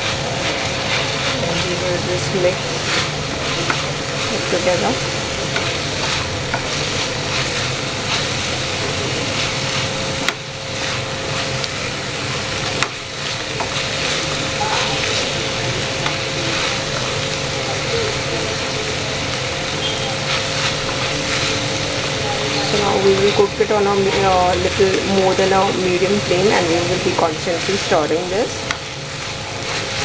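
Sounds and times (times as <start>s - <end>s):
spatula scraping a wok: 0.0s - 17.1s, 19.8s - 30.0s
vegetables sizzling in a wok: 0.0s - 30.0s.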